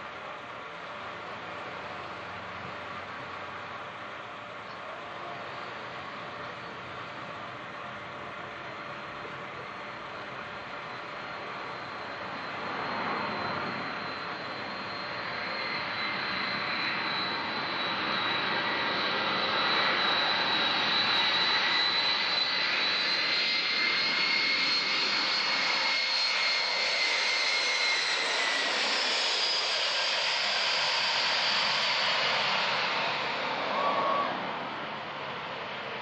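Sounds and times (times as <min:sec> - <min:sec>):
jet engines whining and roaring: 0:00.0 - 0:36.0.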